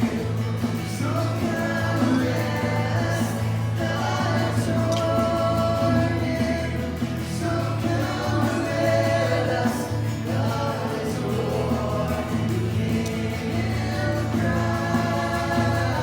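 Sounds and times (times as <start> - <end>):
group singing worship song: 0.0 - 16.0
instrumental accompaniment with bass: 0.0 - 16.0.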